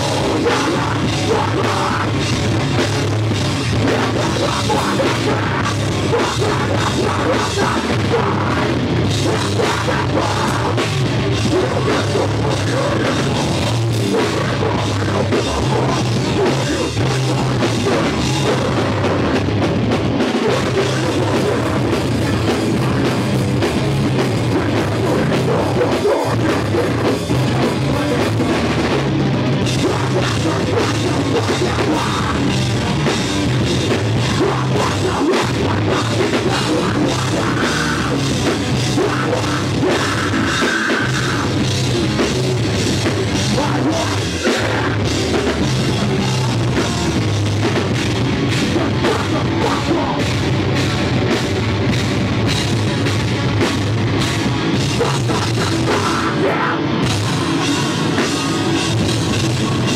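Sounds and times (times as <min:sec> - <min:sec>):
distorted electric guitar: 0:00.0 - 0:59.9
drum kit with cymbals: 0:00.0 - 0:59.9.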